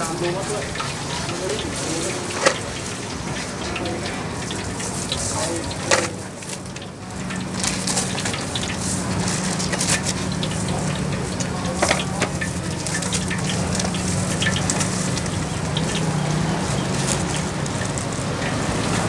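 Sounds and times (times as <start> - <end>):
oil crackling and popping: 0.0 - 19.0
oil sizzling in a wok: 0.0 - 19.0.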